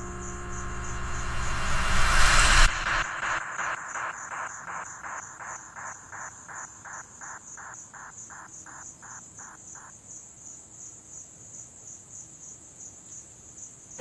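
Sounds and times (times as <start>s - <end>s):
cricket trill: 0.0s - 14.0s
low repeating insect call: 0.0s - 14.0s.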